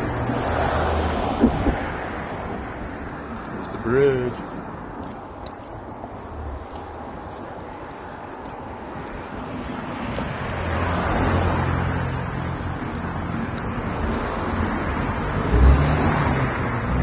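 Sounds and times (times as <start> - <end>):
cars passing close by: 0.0 - 17.0.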